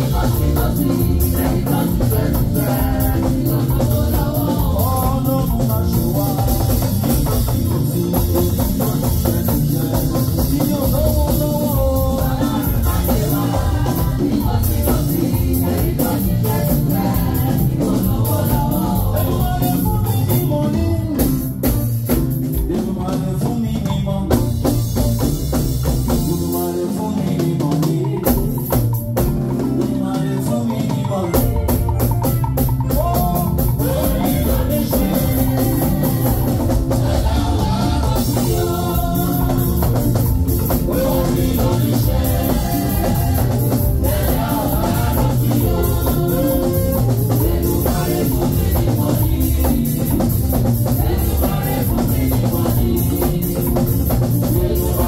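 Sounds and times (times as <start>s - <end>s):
church praise music: 0.0s - 55.0s
drum kit: 0.0s - 55.0s
people singing: 0.0s - 55.0s.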